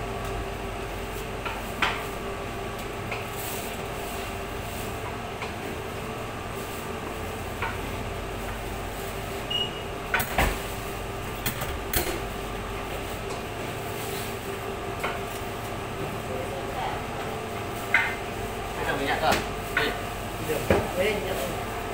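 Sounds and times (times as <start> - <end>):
steady background hum: 0.0 - 21.9.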